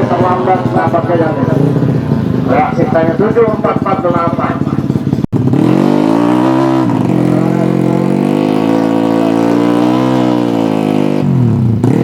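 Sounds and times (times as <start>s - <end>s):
motorcycle engine revving high: 0.0s - 12.0s.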